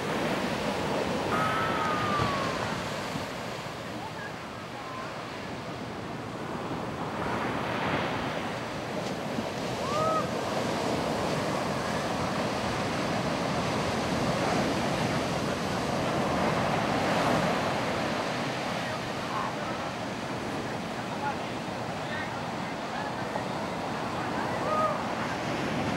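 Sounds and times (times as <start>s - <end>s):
ocean waves breaking on beach: 0.0s - 25.9s.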